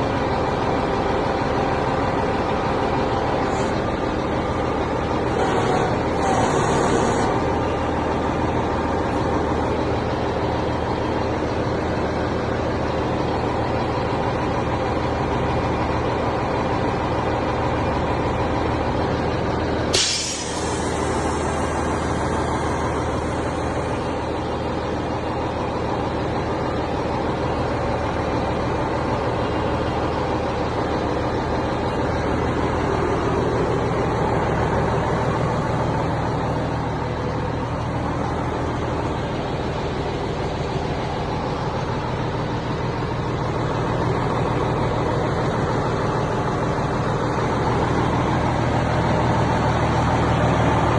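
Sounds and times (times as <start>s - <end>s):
diesel truck engine running: 0.0s - 50.9s.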